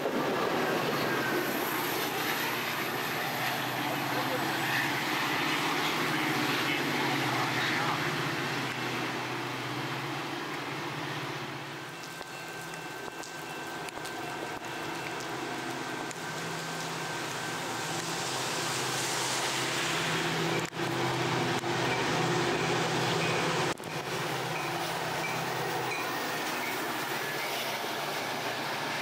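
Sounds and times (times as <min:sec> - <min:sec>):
diesel locomotive humming: 0:00.0 - 0:29.0
heavy rain hissing: 0:00.1 - 0:29.0.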